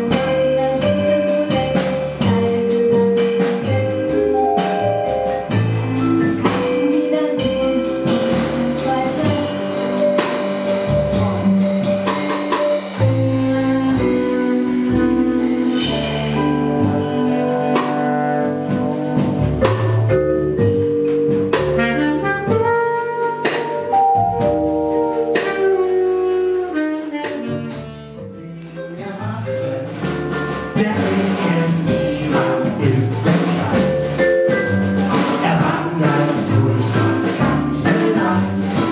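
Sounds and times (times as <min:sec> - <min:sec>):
bass clarinet: 0:00.0 - 0:38.9
small jazz band playing: 0:00.0 - 0:38.9
trombone: 0:00.0 - 0:38.9.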